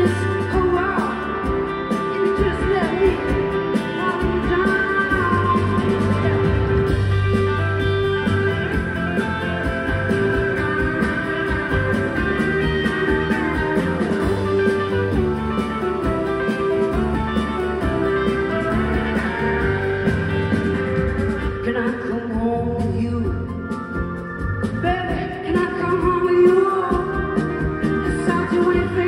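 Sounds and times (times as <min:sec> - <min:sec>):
live blues-rock band playing: 0:00.0 - 0:29.0.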